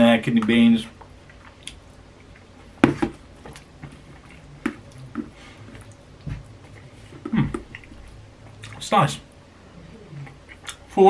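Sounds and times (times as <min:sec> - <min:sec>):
quiet chewing: 0:00.9 - 0:11.0.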